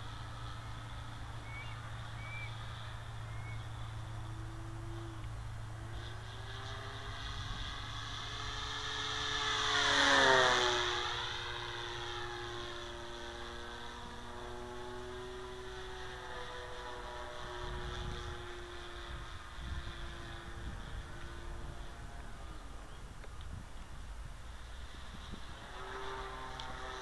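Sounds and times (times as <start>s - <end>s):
model plane motor whining: 0.0s - 27.0s.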